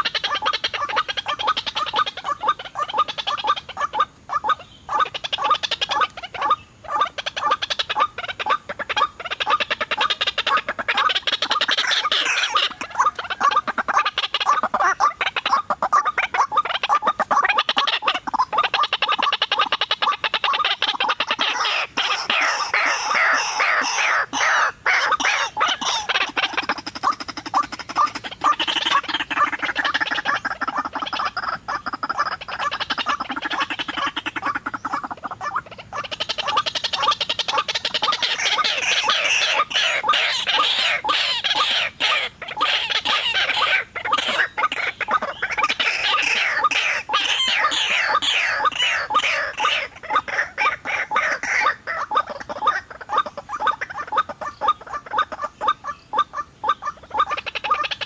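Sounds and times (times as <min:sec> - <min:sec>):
waterhen croaking calls: 0:00.0 - 0:58.0.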